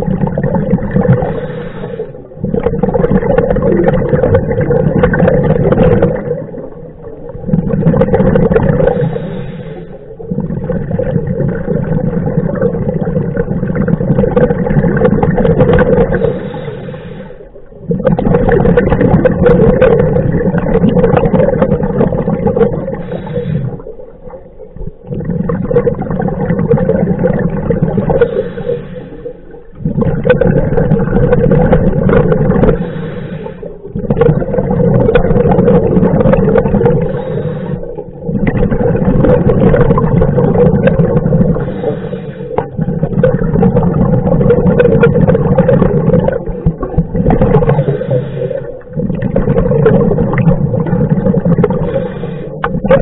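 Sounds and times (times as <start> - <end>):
diver exhaling bubbles underwater: 0.0 - 53.0.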